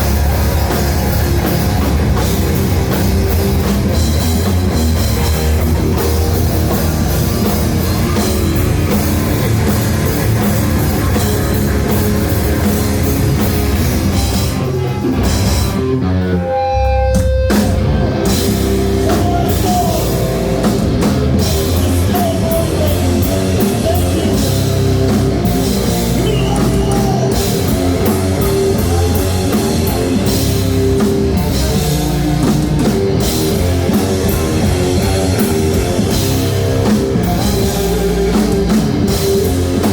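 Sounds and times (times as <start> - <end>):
heavy rock band playing: 0.0 - 39.9.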